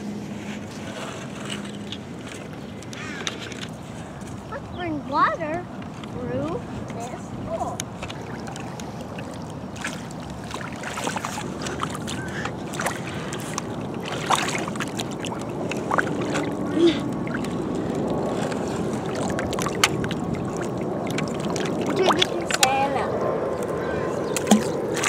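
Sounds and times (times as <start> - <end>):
wind: 0.0 - 25.0
shallow water sloshing and splashing: 0.1 - 25.0.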